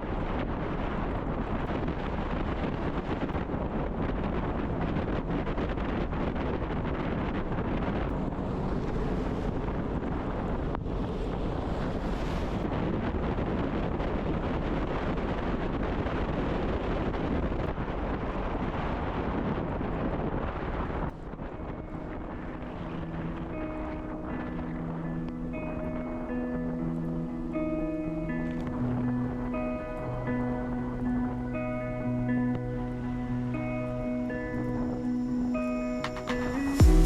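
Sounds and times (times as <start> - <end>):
low rumble: 0.0 - 37.0
wind on microphone: 0.0 - 37.0.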